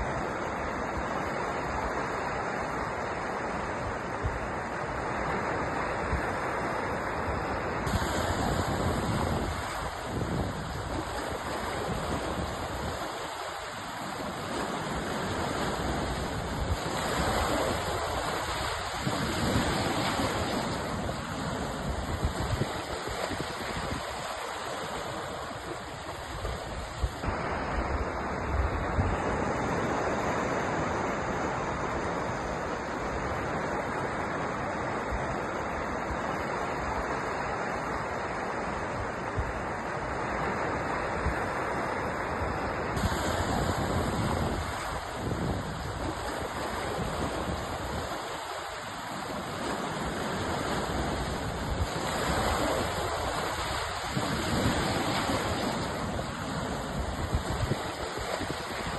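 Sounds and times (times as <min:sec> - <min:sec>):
sea surf washing: 0:00.0 - 0:58.9.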